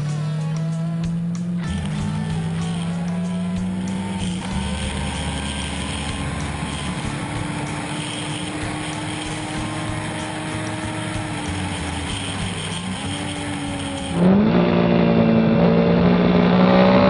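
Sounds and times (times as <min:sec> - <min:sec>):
motorcycle engine at high speed: 0:00.0 - 0:17.0.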